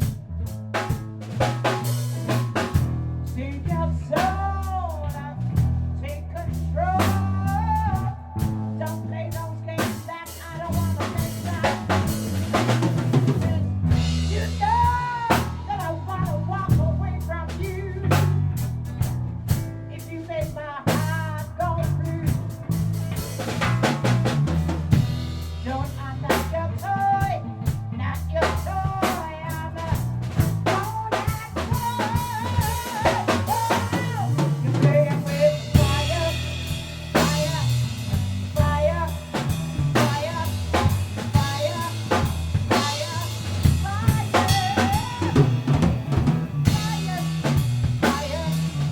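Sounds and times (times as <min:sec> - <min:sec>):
bass guitar notes: 0:00.0 - 0:48.9
drum kit beat: 0:00.0 - 0:48.9.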